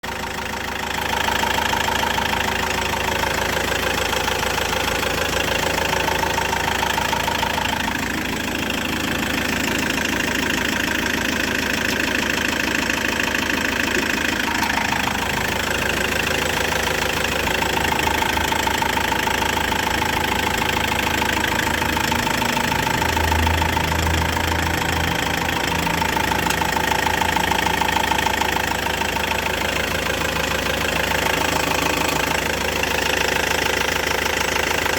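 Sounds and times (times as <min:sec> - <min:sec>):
van engine running with knock: 0:00.0 - 0:34.9.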